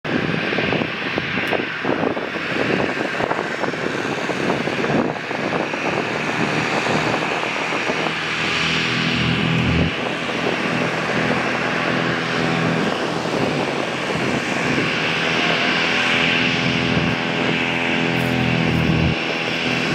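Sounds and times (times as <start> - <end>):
jet engines hissing and whining: 0.0 - 19.9
low drone: 3.2 - 19.9.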